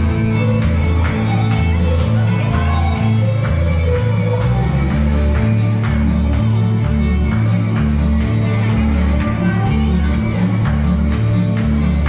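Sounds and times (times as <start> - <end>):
bass accompaniment: 0.0 - 12.0
fiddle music: 0.0 - 12.0.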